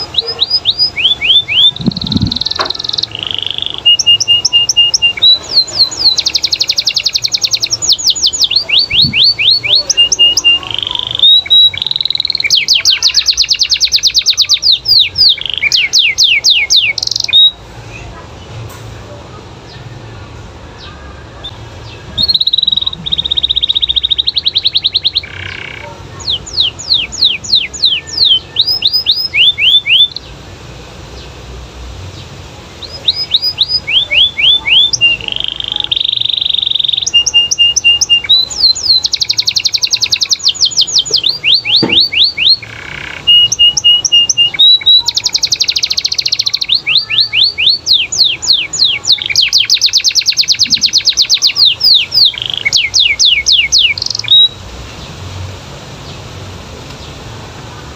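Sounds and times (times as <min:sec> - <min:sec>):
canary singing trills: 0:00.0 - 0:18.6, 0:20.8 - 0:30.5, 0:32.1 - 0:55.2.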